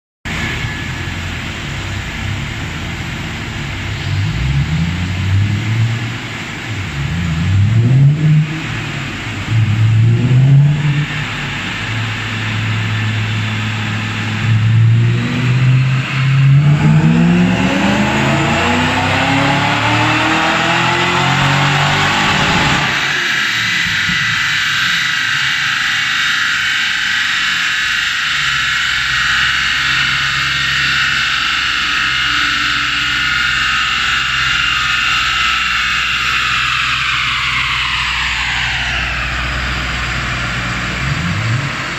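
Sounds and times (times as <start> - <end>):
car engine revving: 0.3 - 41.9
high whine and rushing: 0.3 - 41.9.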